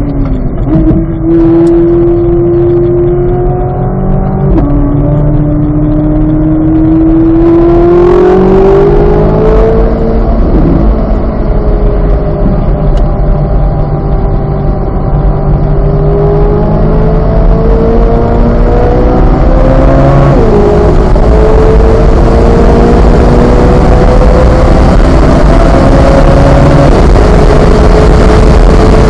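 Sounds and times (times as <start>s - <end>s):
car engine accelerating hard: 0.0s - 29.0s
wind and road noise: 0.0s - 29.0s.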